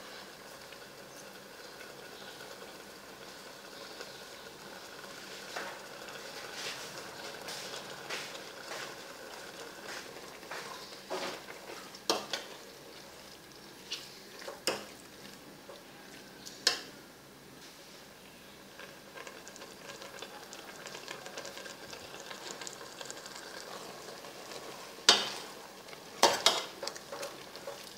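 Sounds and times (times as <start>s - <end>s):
meat sizzling in a pot: 0.0s - 17.0s, 18.6s - 27.9s.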